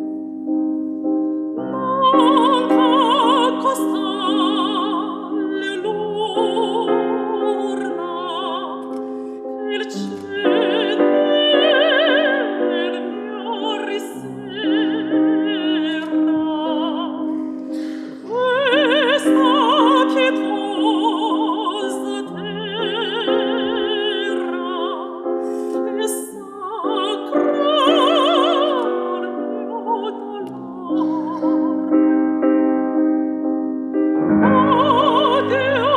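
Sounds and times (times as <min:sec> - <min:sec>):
piano accompaniment: 0:00.0 - 0:35.9
woman singing classically: 0:01.7 - 0:08.9, 0:09.6 - 0:17.4, 0:18.2 - 0:25.2, 0:25.8 - 0:32.1, 0:34.3 - 0:35.9.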